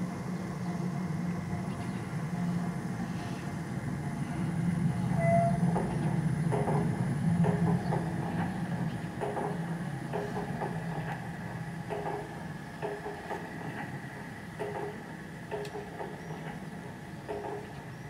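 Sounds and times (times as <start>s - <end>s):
wheels clicking over rails: 1.4s - 18.0s.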